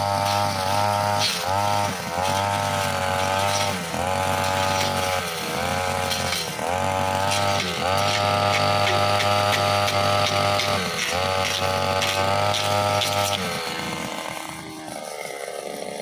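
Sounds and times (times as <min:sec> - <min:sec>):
blade cutting through grass: 0:00.0 - 0:16.0
brushcutter engine at high revs: 0:00.0 - 0:16.0.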